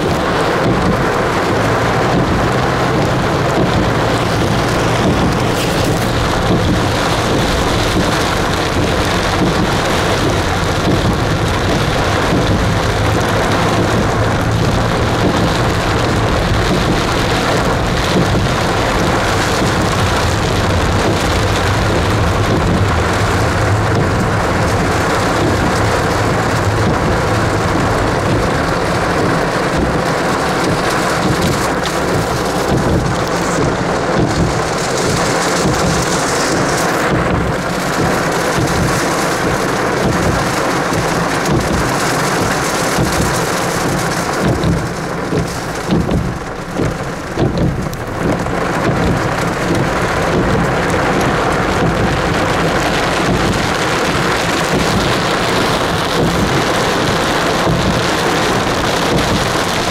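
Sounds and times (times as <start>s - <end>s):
heavy rain: 0.0s - 59.9s
low rumble: 0.0s - 59.9s.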